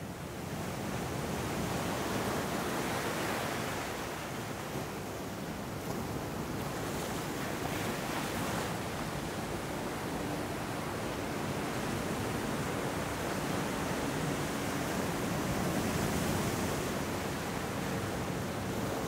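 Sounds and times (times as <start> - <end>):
ocean waves breaking: 0.5 - 19.0.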